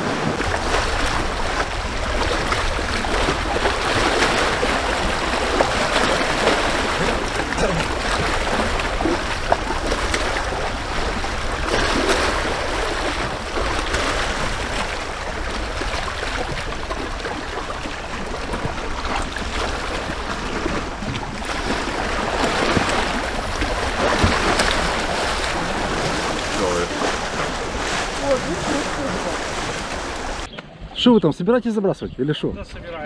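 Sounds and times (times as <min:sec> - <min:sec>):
small waves lapping: 0:00.0 - 0:30.5
wind on microphone: 0:00.0 - 0:31.0.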